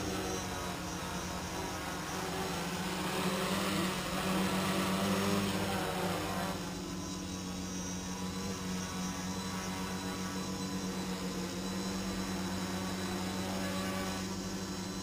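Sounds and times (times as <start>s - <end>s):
quadcopter buzzing hum: 0.0s - 15.0s.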